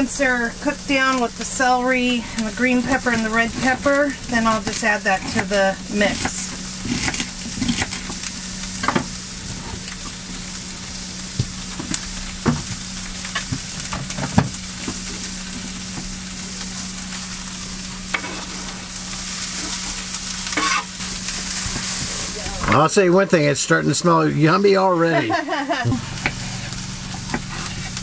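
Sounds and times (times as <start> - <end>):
onions sizzling in a frying pan: 0.0 - 28.0.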